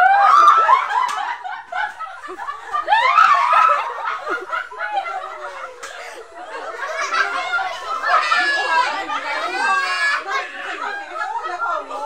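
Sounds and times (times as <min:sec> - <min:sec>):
women laughing: 0:00.0 - 0:12.0.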